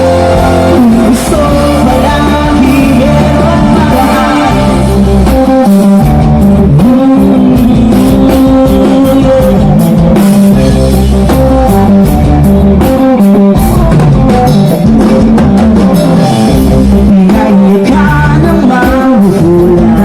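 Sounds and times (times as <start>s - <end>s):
rock band instrumental: 0.0s - 20.0s.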